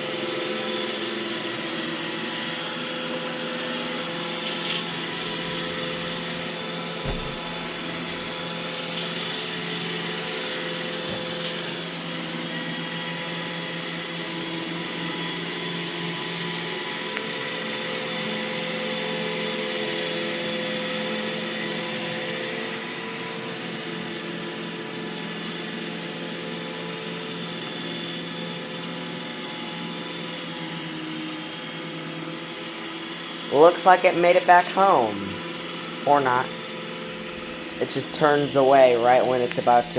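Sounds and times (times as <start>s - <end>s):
robot vacuum whirring: 0.0s - 39.9s.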